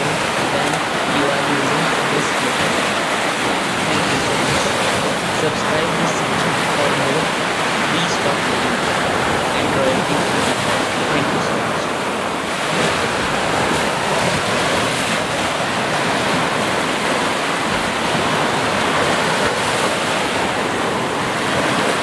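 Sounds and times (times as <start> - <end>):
ocean waves washing up beach: 0.0 - 22.0.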